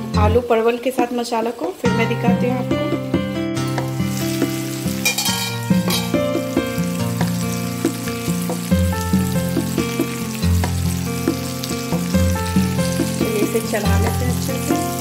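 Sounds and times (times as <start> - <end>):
background music low notes: 0.0 - 15.0
vegetables sizzling in a pan: 0.4 - 2.2, 3.6 - 15.0.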